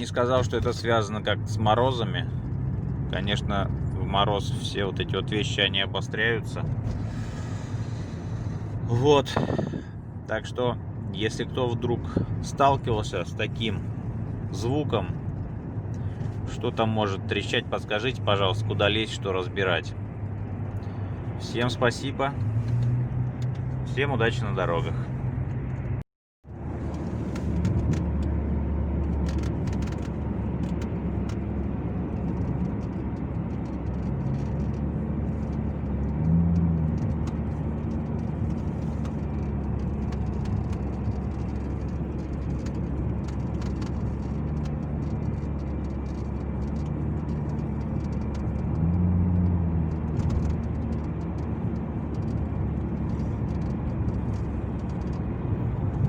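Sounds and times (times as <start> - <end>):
engine and road drone: 0.0 - 56.0.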